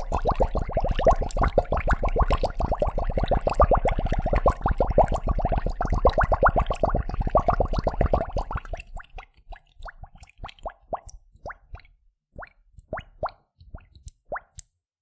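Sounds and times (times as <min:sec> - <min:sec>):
bubbles plopping in water: 0:00.0 - 0:14.5.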